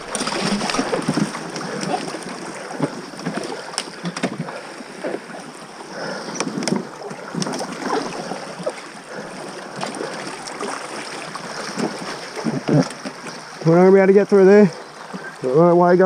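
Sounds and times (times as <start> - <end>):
paddles splashing in water: 0.0 - 16.0.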